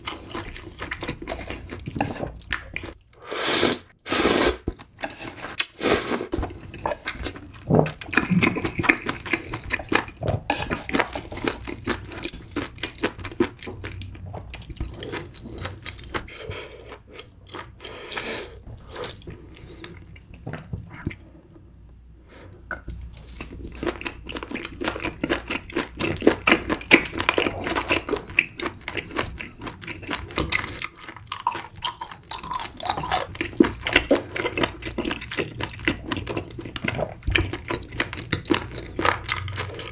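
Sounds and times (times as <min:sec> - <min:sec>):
person chewing: 0:00.0 - 0:21.2, 0:22.7 - 0:39.9.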